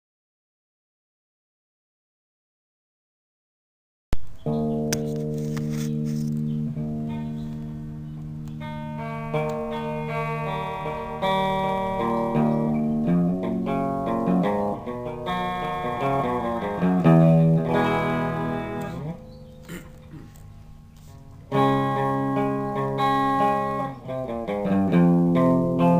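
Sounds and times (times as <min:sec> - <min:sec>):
clean electric guitar: 0:04.2 - 0:25.9.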